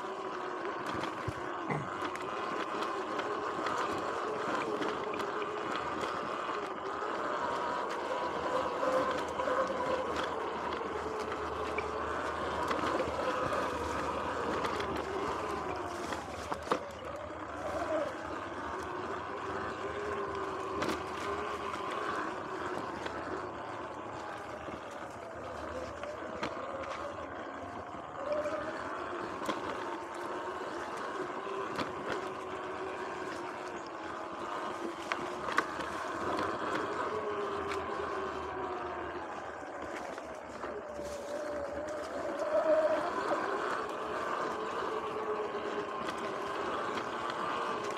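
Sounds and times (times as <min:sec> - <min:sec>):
electric motor whine: 0:00.0 - 0:47.9
tyre and drivetrain noise: 0:00.0 - 0:47.9.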